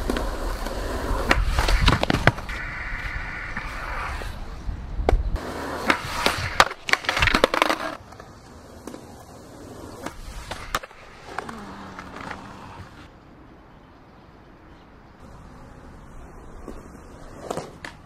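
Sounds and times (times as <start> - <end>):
skateboard wheels rolling on concrete: 0.0 - 18.0.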